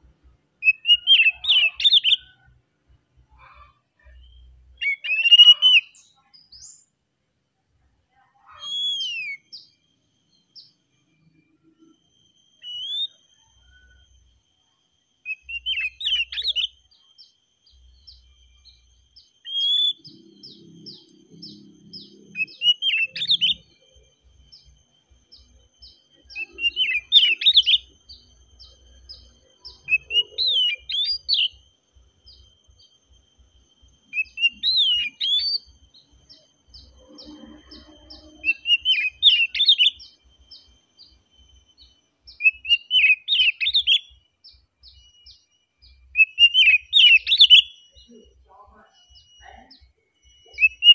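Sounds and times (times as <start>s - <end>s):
magpie-robin singing: 0.6s - 2.5s, 3.3s - 6.9s, 8.4s - 11.1s, 12.5s - 14.1s, 15.2s - 50.9s.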